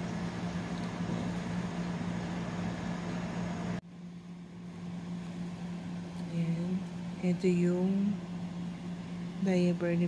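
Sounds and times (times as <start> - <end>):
low machine hum: 0.0 - 10.0
room noise hiss: 0.0 - 10.0.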